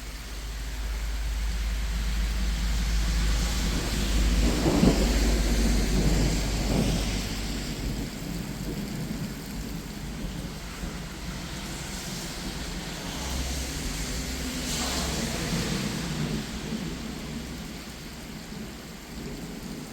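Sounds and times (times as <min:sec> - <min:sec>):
steady rain: 0:00.0 - 0:19.9
thunder rumbling: 0:00.0 - 0:19.9.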